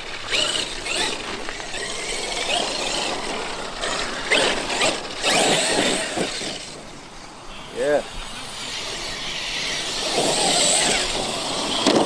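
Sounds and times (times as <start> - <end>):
rc truck motor whining: 0.0 - 12.0.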